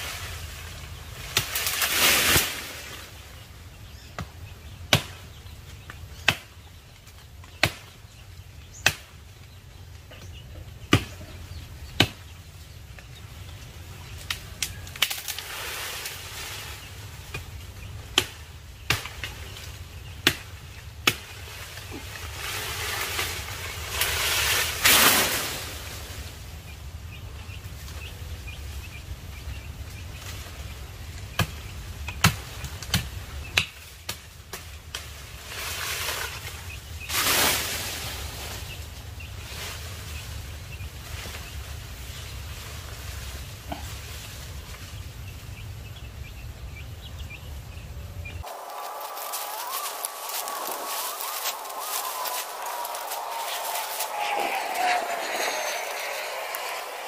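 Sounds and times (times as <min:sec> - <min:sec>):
leafy branches rustling: 0:00.0 - 0:57.0.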